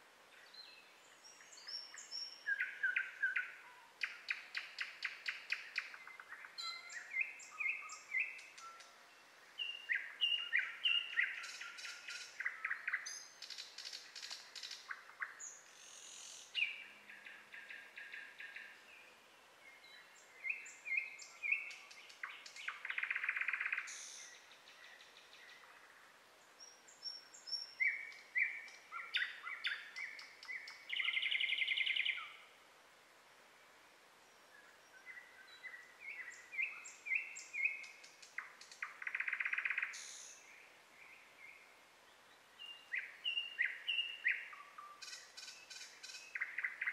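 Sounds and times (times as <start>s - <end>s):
songbirds singing: 0.0s - 32.7s, 33.7s - 46.9s.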